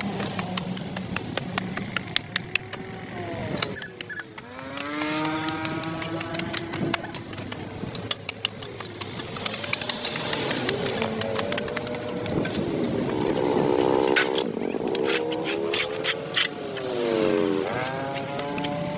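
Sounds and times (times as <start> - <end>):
sharp irregular clicks and scrapes: 0.0 - 18.9.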